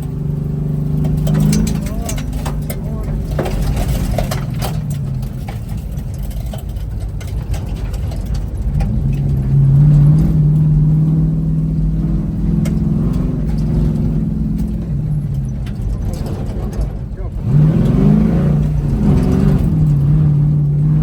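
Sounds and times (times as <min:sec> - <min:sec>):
vehicle engine under load: 0:00.0 - 0:21.0.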